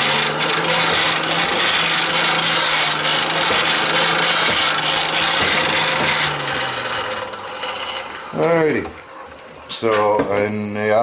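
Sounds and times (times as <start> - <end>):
hand-cranked blower whirring: 0.0 - 8.9
noisy gears and fan paddles: 0.0 - 10.2.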